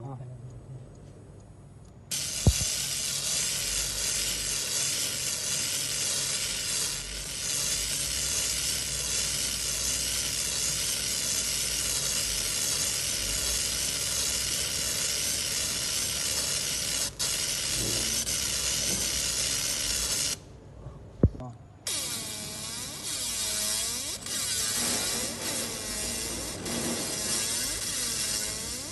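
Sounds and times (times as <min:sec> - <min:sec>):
laser sizzling hiss with warble: 0:02.1 - 0:20.4, 0:21.9 - 0:28.9.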